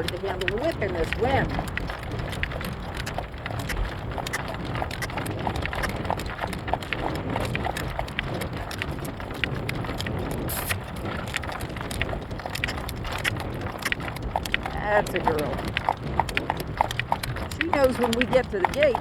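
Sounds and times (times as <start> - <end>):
horse hooves clip-clopping: 0.0 - 19.0
wind buffeting microphone: 0.0 - 19.0.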